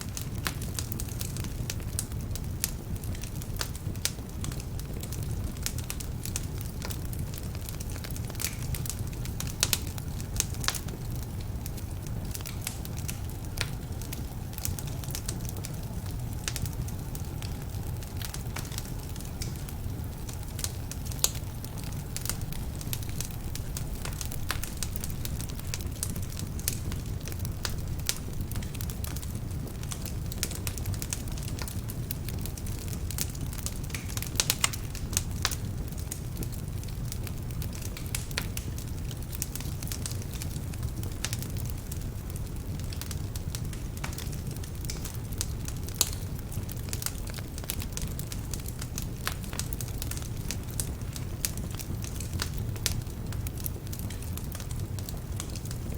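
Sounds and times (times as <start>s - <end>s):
fire flames rumbling: 0.0s - 55.9s
wood fire crackling and popping: 0.0s - 55.9s.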